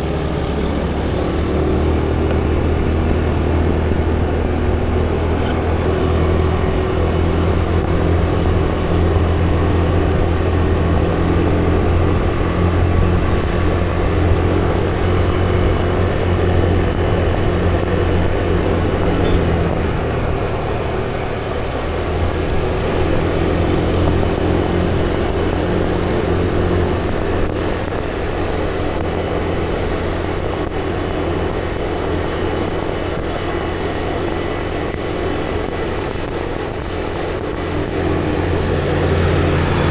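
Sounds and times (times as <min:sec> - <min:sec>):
road and wind noise: 0:00.0 - 0:39.9
vehicle engine cruising: 0:00.0 - 0:39.9.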